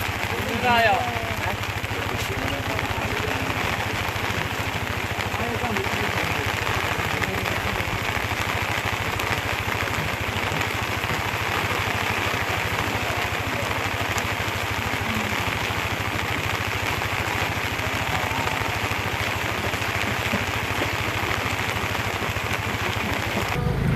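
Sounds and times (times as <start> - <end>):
small engine idling: 0.0 - 23.9.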